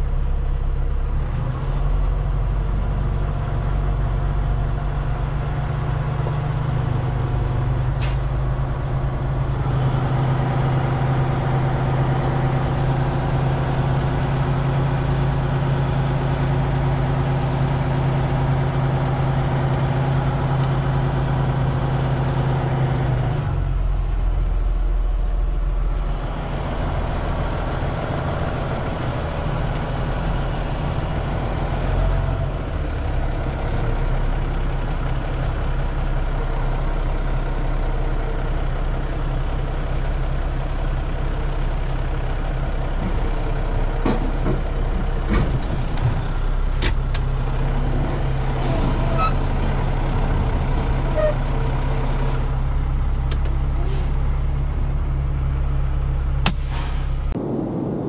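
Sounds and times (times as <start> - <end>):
diesel truck engine: 0.0 - 58.0.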